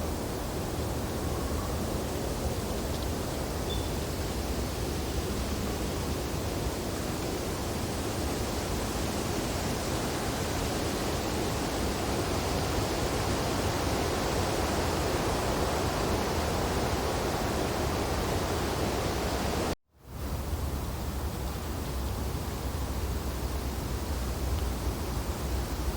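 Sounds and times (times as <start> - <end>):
wind through tree branches: 0.0 - 25.9.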